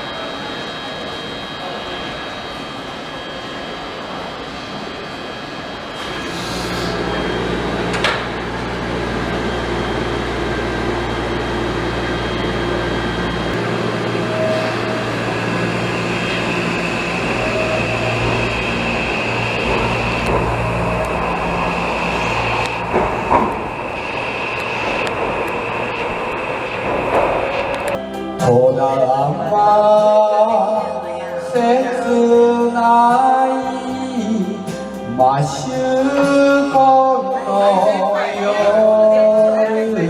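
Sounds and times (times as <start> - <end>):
thin high whine: 0.0 - 40.0
train running hum: 0.0 - 40.0.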